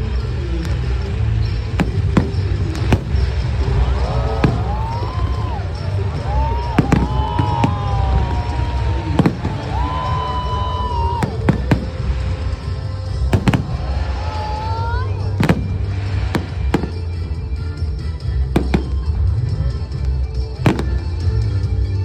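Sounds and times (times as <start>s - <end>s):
steady low rumble: 0.0s - 21.7s
fireworks bangs: 0.7s - 21.7s.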